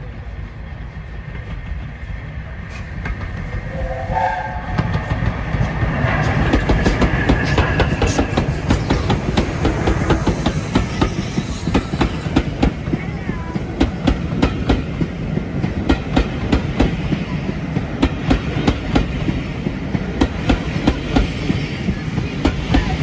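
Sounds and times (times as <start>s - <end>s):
steam locomotives rumbling: 0.0s - 23.0s.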